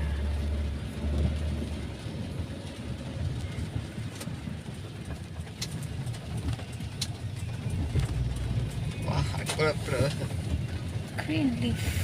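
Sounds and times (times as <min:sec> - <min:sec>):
car engine rumble: 0:00.0 - 0:12.0
tyres on wet road: 0:00.0 - 0:12.0.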